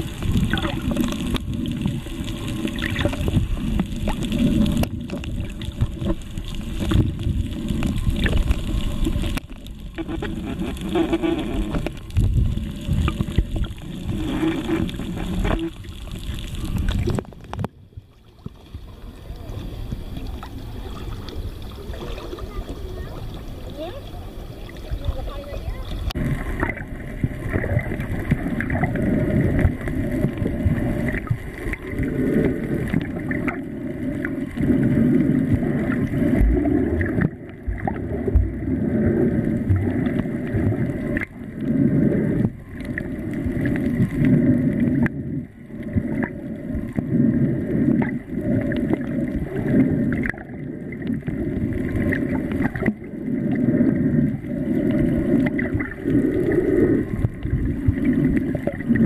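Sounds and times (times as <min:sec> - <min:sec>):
muffled underwater water rush: 0:00.0 - 0:59.0.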